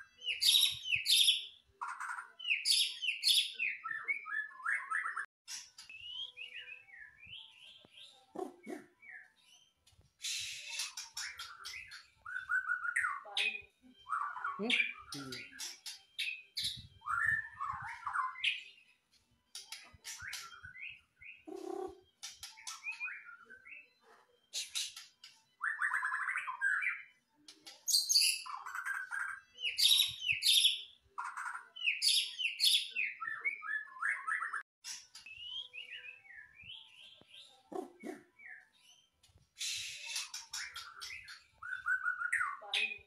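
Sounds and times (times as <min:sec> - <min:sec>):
songbird whistling and trilling: 0:00.0 - 0:15.6, 0:16.2 - 0:18.9, 0:20.0 - 0:27.2, 0:27.9 - 0:43.0.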